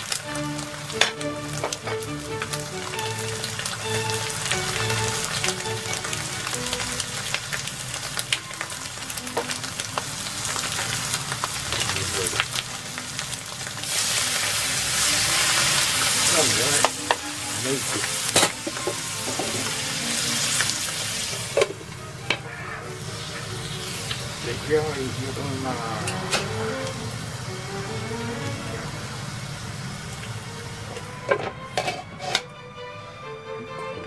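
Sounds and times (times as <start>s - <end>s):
food sizzling in a skillet: 0.0s - 32.4s.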